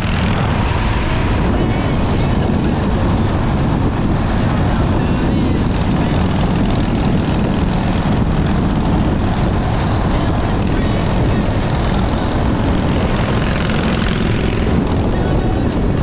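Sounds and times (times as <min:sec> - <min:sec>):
motorcycle engine droning: 0:00.0 - 0:16.0
wind noise: 0:00.0 - 0:16.0.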